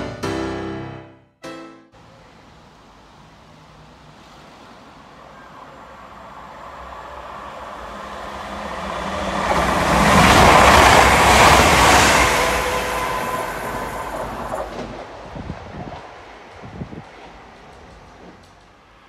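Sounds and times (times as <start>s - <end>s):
train wheels on rails: 3.0s - 19.0s.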